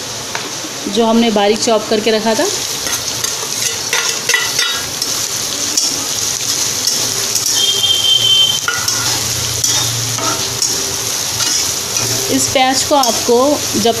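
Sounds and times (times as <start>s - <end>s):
onion sizzling in hot oil: 0.0s - 14.0s.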